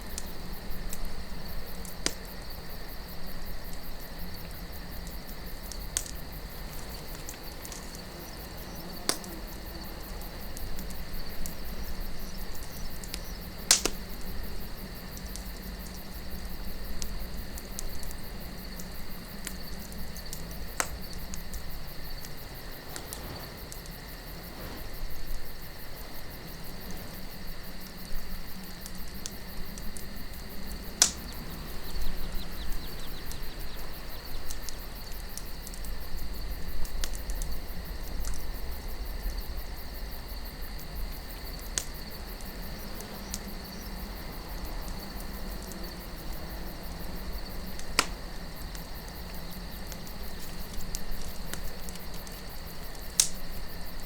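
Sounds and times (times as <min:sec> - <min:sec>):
loud pops from fire: 0:00.0 - 0:40.2, 0:40.8 - 0:54.0
low wind rumble: 0:00.0 - 0:52.9
campfire wood crackling: 0:00.0 - 0:54.0
night insects chirring: 0:00.0 - 0:54.0.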